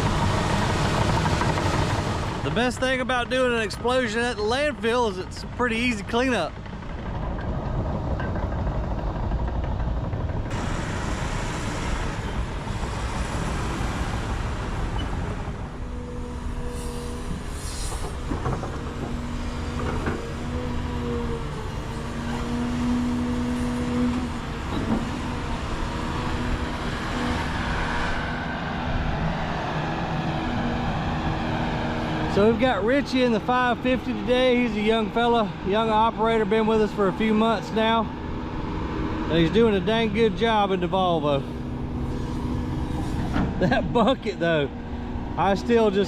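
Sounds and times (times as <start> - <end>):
diesel engine under load: 0.0 - 46.0.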